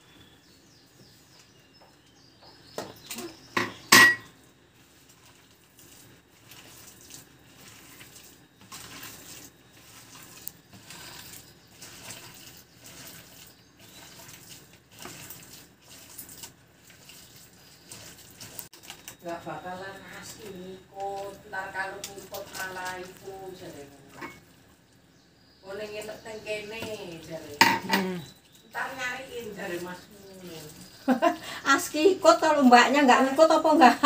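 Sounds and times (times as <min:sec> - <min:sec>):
hand mixing vegetables in bowl: 0:04.7 - 0:24.9, 0:25.6 - 0:34.0.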